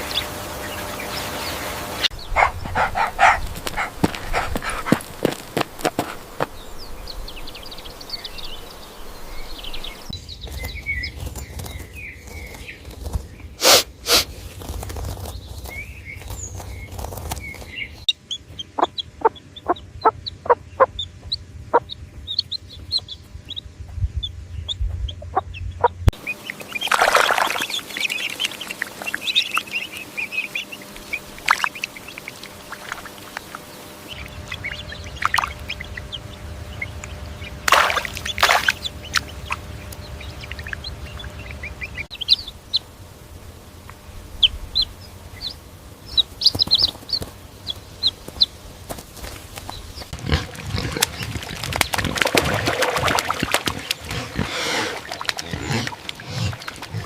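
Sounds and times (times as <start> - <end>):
chicken clucking and chirps: 0.0 - 13.5, 15.0 - 42.9, 43.9 - 57.0
bird calls: 0.0 - 14.2, 15.0 - 42.9, 43.8 - 57.0.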